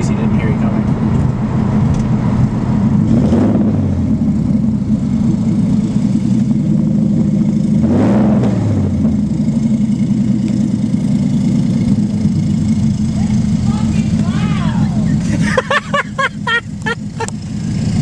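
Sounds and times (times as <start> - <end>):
loud car engine drone: 0.0 - 18.0.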